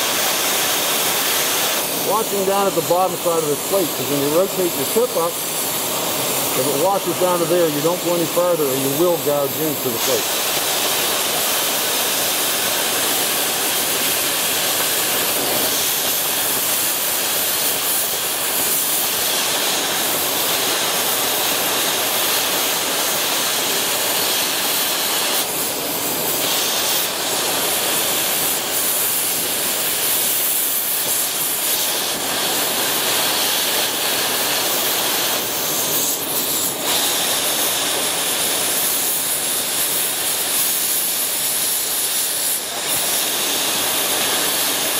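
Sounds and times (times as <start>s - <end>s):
cutting torch rushing hiss: 0.0s - 44.9s.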